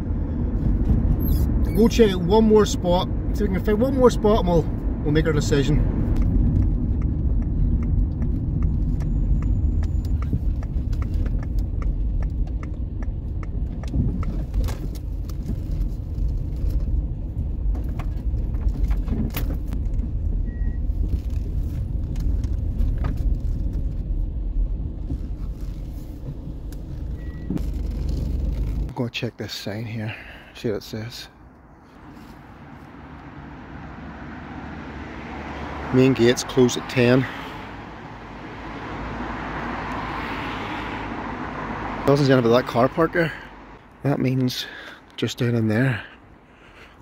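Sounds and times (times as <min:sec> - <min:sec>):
road noise: 0:00.0 - 0:47.0
van engine rumble: 0:00.0 - 0:47.0.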